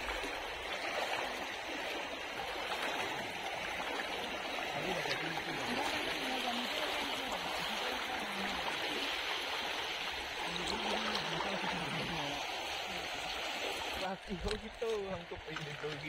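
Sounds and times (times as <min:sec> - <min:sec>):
river water churning around legs: 0:00.0 - 0:16.0.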